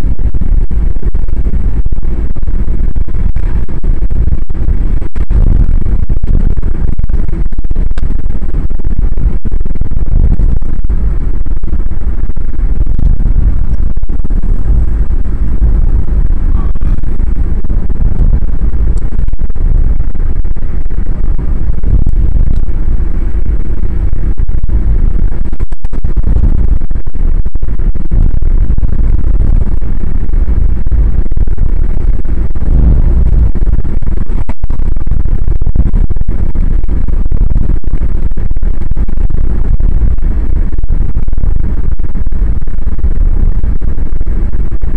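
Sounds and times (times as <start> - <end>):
car driving rumble: 0.0 - 44.9.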